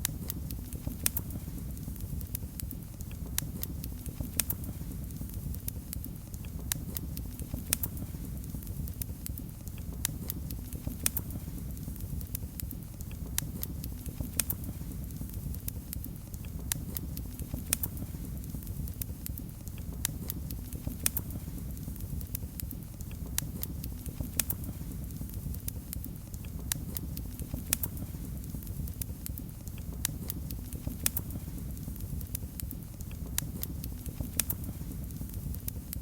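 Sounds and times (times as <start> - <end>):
fire low rumble: 0.0 - 36.0
wood fire crackling and popping: 0.0 - 36.0.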